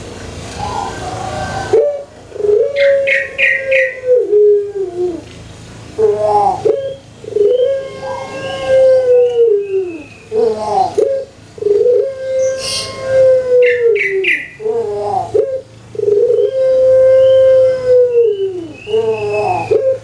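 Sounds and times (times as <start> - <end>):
dove cooing: 0.5 - 5.3, 5.9 - 20.0.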